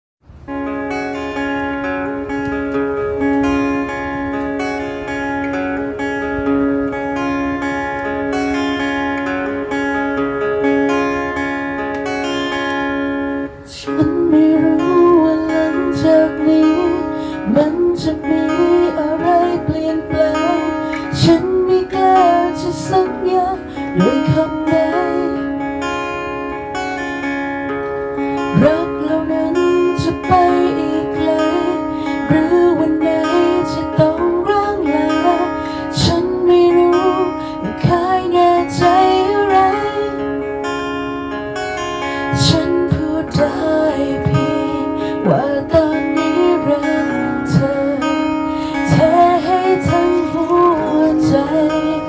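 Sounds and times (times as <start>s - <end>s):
acoustic guitar ballad: 0.3s - 52.0s.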